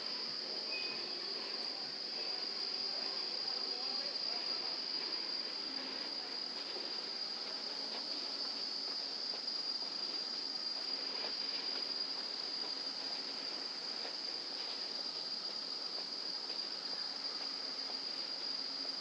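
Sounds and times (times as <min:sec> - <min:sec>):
faint outdoor background noise: 0:00.0 - 0:19.0
insects droning: 0:00.0 - 0:19.0.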